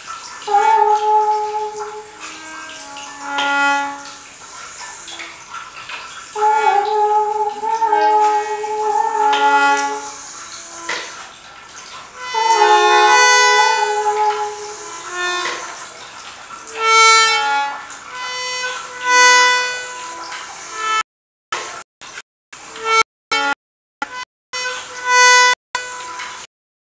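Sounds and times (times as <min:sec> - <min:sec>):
sustained reedy tones: 0:00.4 - 0:05.4, 0:06.3 - 0:11.2, 0:12.1 - 0:21.0, 0:22.7 - 0:26.5.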